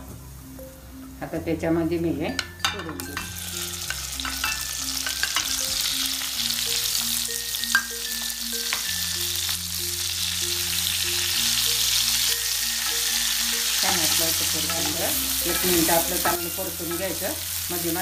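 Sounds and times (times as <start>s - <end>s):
soft background music: 0.0s - 18.0s
vegetables sizzling in hot oil: 0.3s - 18.0s.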